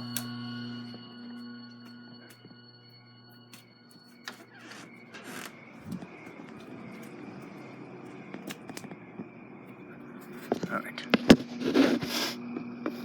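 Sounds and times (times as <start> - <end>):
steady noisy hum: 0.0 - 13.0.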